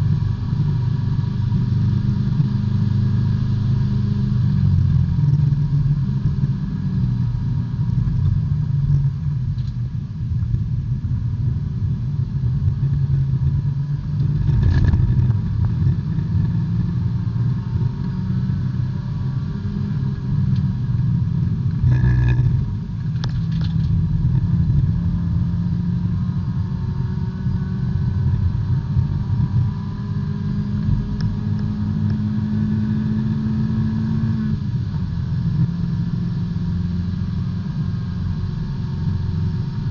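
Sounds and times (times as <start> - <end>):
race car engine from cockpit: 0.0 - 39.9.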